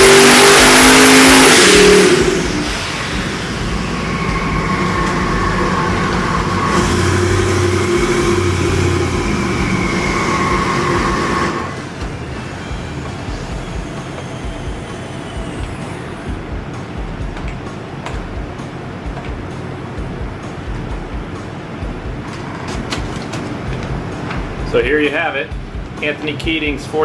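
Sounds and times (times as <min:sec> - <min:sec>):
engine running with whining tones: 0:00.0 - 0:26.9.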